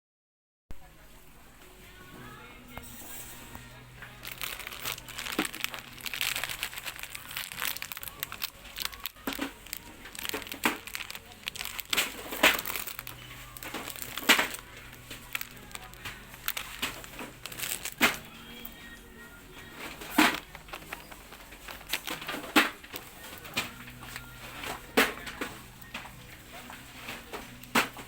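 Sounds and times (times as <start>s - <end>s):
plastic packaging crinkling: 1.6s - 28.0s.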